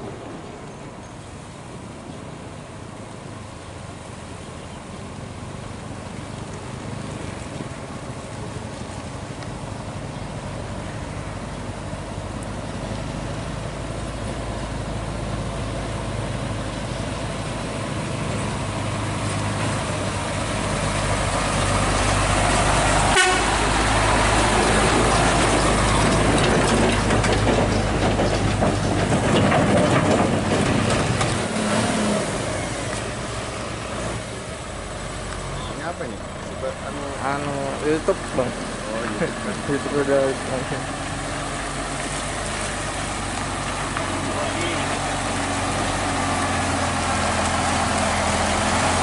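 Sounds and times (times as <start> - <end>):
diesel truck driving past: 0.0 - 49.0.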